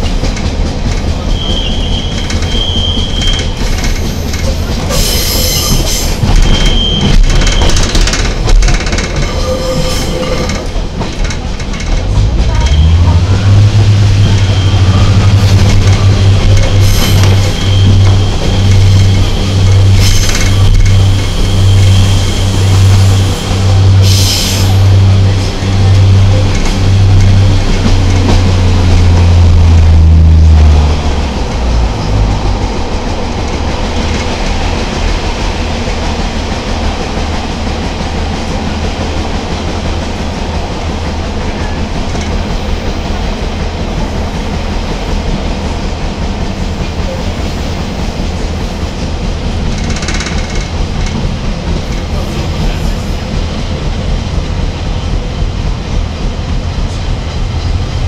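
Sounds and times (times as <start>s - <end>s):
railcar engine drone: 0.0s - 58.0s
wheels on the track: 0.0s - 58.0s.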